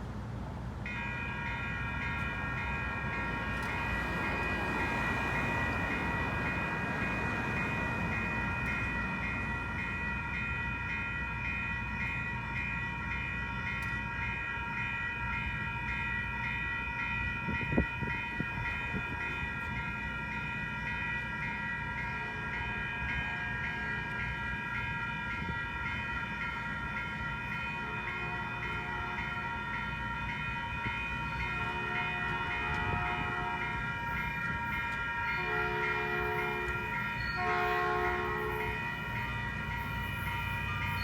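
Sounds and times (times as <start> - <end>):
railroad crossing bells ringing: 0.6 - 41.0.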